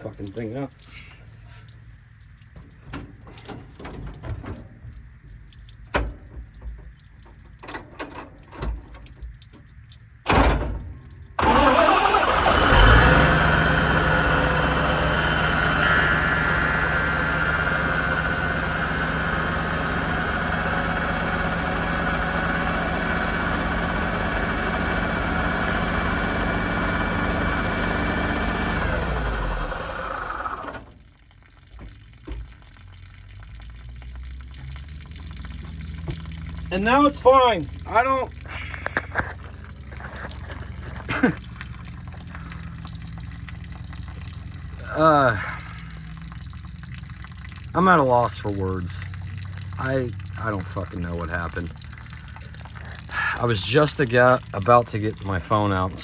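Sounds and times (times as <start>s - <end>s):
water pump running: 0.0s - 56.0s.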